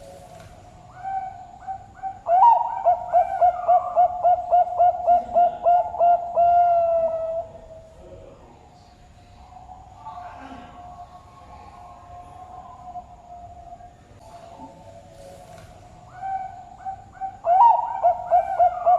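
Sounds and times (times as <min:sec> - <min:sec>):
dove cooing: 0:00.0 - 0:07.9, 0:09.4 - 0:18.9.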